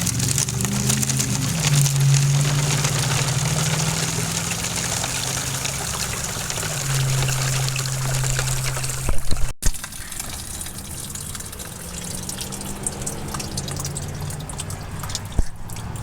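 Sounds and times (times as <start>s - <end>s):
small pump motor humming: 0.0s - 15.4s
water running and trickling: 0.0s - 16.0s.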